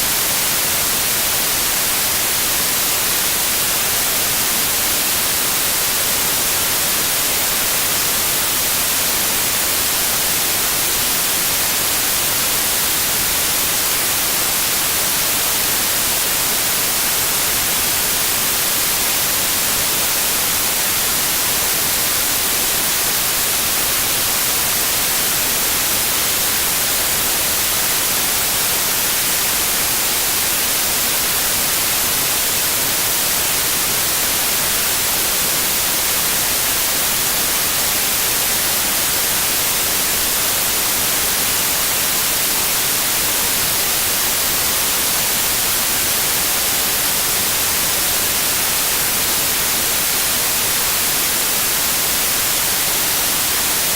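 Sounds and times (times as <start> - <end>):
steady white noise hiss: 0.0 - 53.9.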